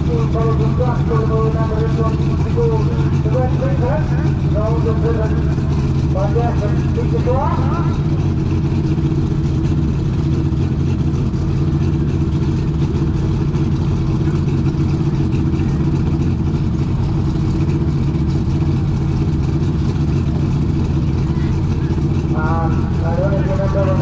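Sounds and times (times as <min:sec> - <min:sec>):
tractor engine high idle: 0:00.0 - 0:24.0.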